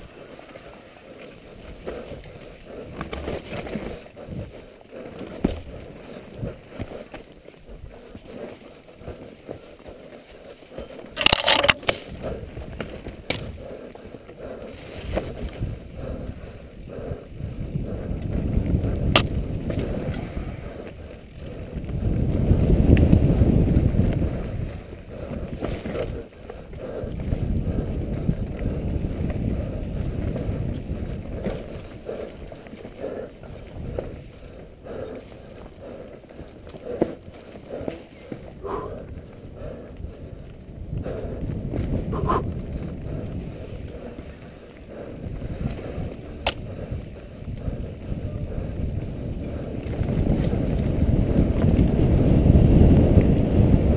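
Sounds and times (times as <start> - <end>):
bike tyres rolling on dirt: 0.0 - 53.9
wind rush on camera: 0.0 - 53.9.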